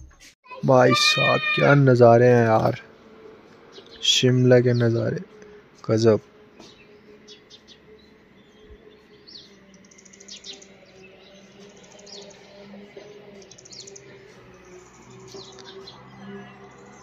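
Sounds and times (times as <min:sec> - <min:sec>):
small birds chirping: 0:00.5 - 0:17.0.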